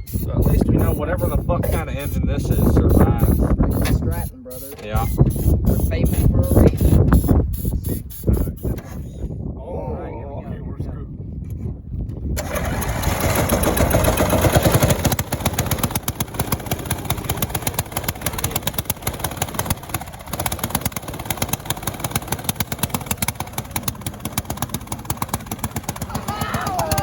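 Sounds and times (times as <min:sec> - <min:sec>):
lawnmower engine running: 0:00.0 - 0:08.7, 0:12.4 - 0:27.0.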